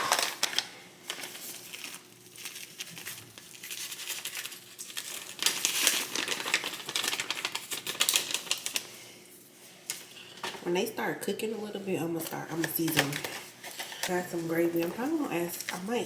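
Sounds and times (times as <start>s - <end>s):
food packaging crinkling: 0.0s - 9.1s, 12.2s - 16.0s.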